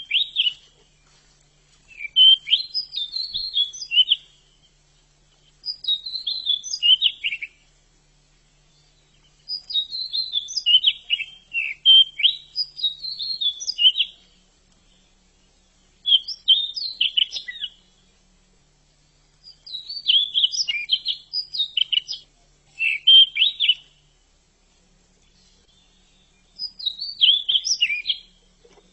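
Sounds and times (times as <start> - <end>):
bird singing chirpy warbles: 0.0 - 28.9.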